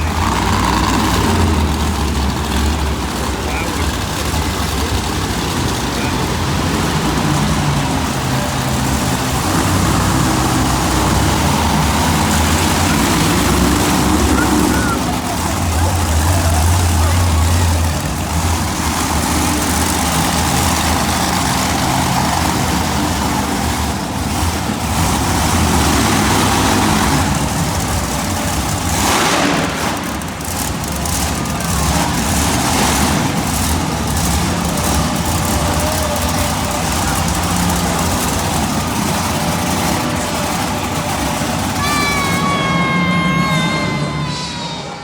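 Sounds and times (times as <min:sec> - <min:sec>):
loud rush of noise: 0:00.0 - 0:45.0
monster truck engine revving: 0:00.0 - 0:45.0.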